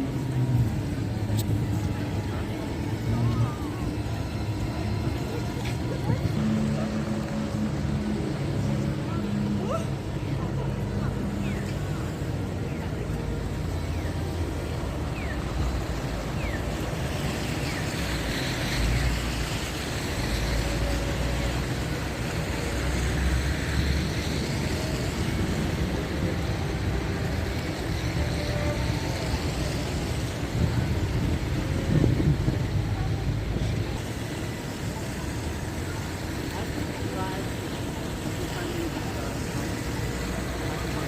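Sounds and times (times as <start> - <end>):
traffic passing: 0.0 - 41.0.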